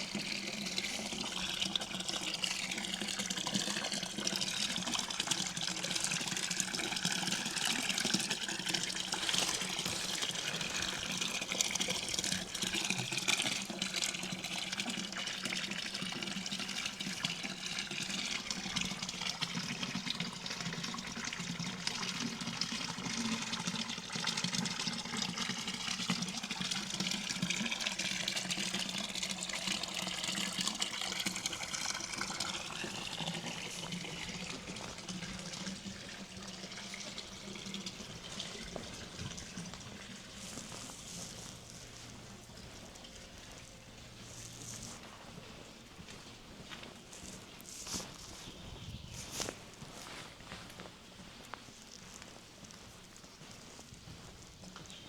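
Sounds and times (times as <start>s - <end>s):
water gushing: 0.0s - 45.5s.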